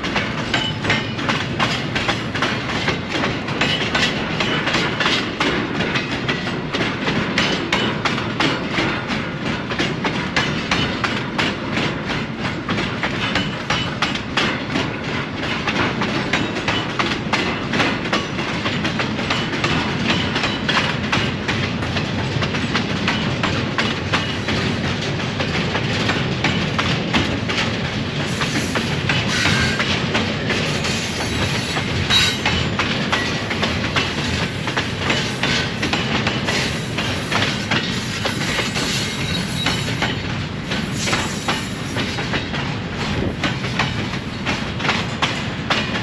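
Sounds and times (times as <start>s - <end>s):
train wheels clicking over rail joints: 0.0s - 46.0s.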